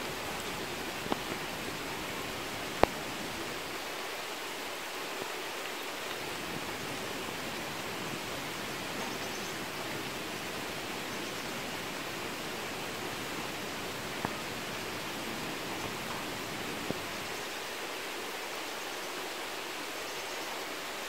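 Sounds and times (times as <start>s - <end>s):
rain falling on soil: 0.0s - 18.5s.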